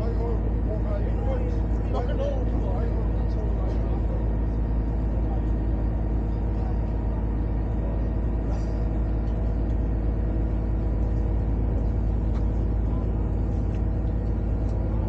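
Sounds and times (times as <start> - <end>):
ship engine drone: 0.0 - 15.0.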